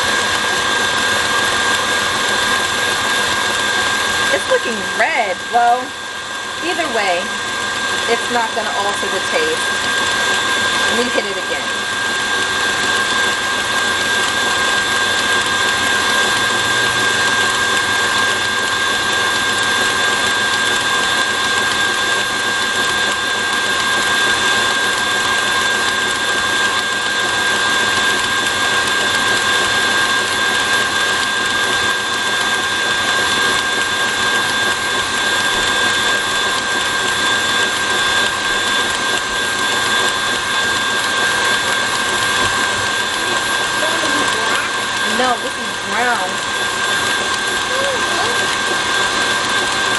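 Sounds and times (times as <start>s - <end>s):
stand mixer motor whine: 0.0s - 49.9s.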